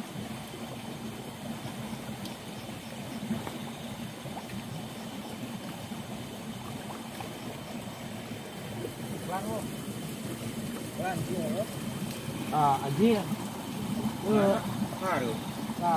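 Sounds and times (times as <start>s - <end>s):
water running in a stream: 0.0s - 15.9s.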